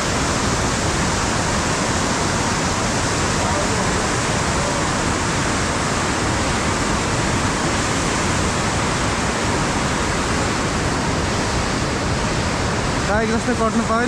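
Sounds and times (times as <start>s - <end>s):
whitewater rapids roaring: 0.0s - 14.0s.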